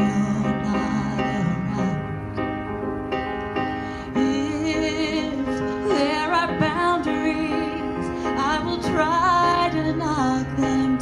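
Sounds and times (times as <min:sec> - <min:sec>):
woman singing slow song: 0:00.0 - 0:02.4, 0:04.0 - 0:11.0
soft backing music: 0:00.0 - 0:11.0.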